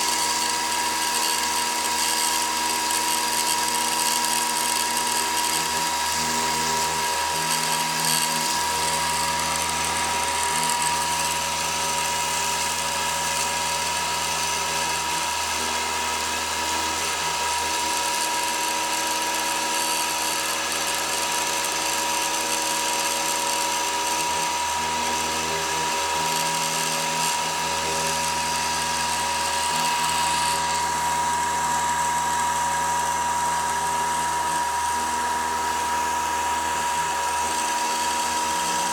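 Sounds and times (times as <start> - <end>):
bit cutting stone hiss: 0.0 - 38.9
router spindle whine: 0.0 - 38.9.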